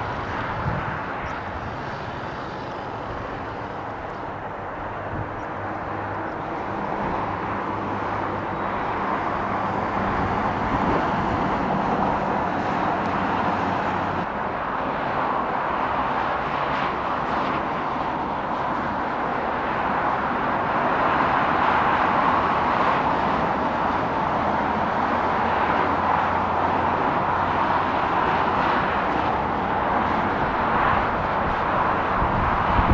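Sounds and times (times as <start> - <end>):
distant jet flying overhead: 0.0 - 32.9.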